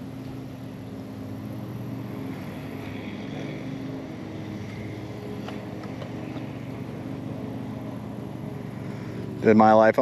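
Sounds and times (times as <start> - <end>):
motorboat engine drone: 0.0 - 10.0.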